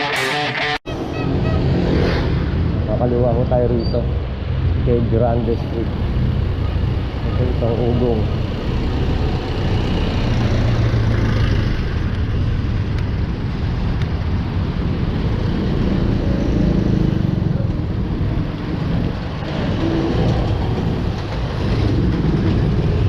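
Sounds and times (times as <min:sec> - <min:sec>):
road traffic rumble: 0:00.9 - 0:23.0.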